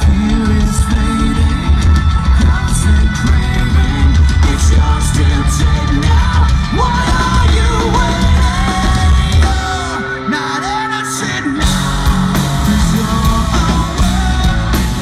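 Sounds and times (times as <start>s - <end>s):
bass guitar: 0.0s - 15.0s
drums: 0.0s - 15.0s
electric guitar: 0.0s - 15.0s
person singing and yelling: 0.0s - 15.0s.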